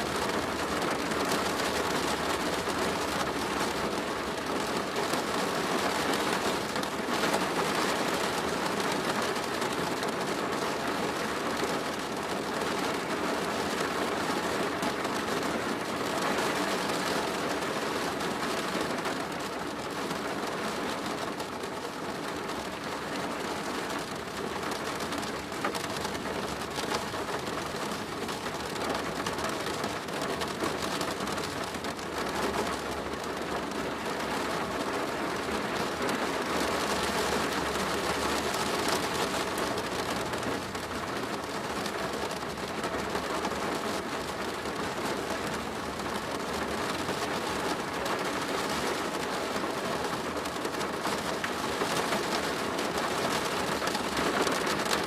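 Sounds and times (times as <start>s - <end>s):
rain on a plastic roof: 0.0s - 55.0s.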